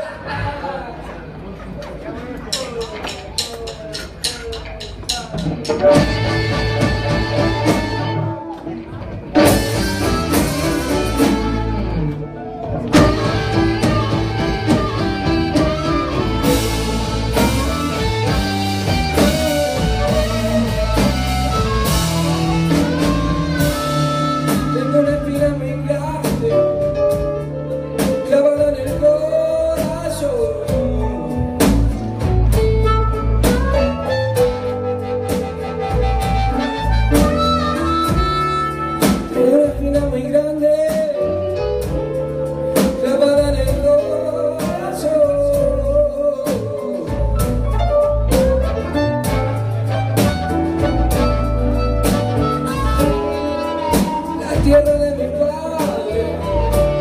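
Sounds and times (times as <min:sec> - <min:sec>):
live blues band playing: 0:00.0 - 0:57.0.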